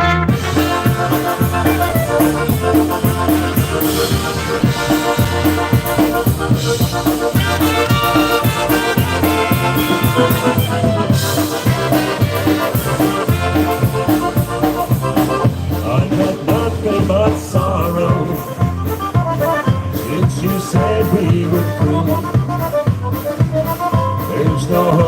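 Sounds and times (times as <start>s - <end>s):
polka band playing: 0.0s - 25.0s.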